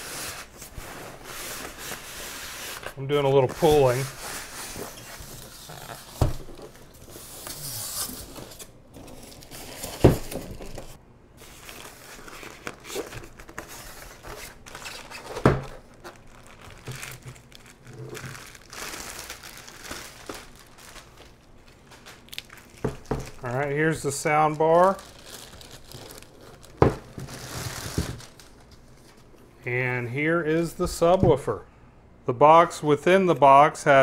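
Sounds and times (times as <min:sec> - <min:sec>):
packaging crinkling and rustling: 0:00.0 - 0:29.4.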